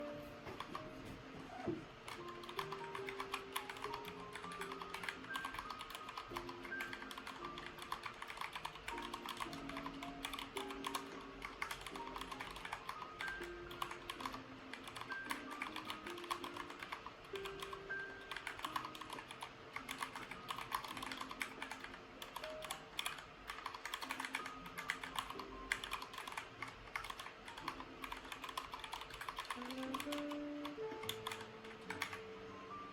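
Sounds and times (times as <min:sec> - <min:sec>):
background music: 0:00.0 - 0:32.9
keyboard key clicks: 0:00.5 - 0:32.2.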